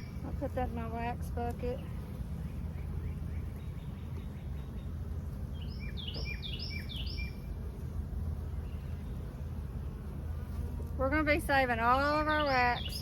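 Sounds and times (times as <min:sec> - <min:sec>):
songbird singing: 0:00.0 - 0:13.0
steady low hum: 0:00.0 - 0:13.0.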